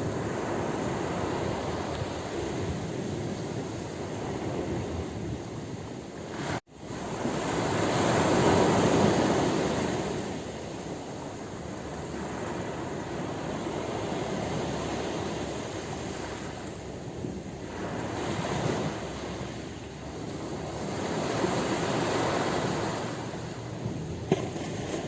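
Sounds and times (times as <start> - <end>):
waves breaking and washing in: 0.0 - 25.0.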